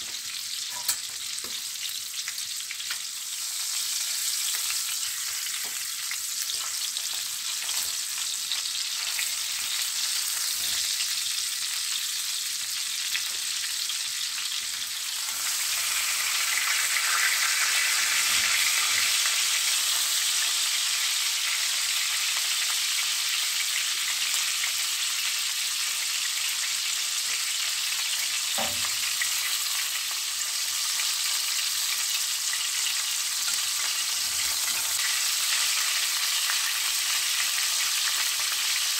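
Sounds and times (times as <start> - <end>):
steak sizzling in butter: 0.0 - 38.9.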